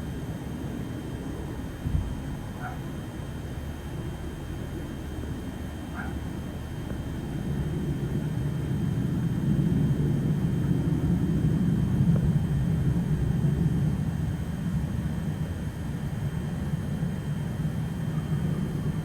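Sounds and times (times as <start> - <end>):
jet aircraft rumble overhead: 0.0 - 19.0.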